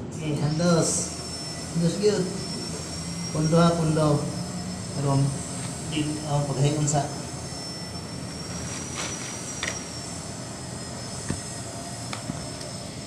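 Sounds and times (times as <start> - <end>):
low mechanical hum: 0.0 - 13.0
thin high whine: 0.0 - 13.0.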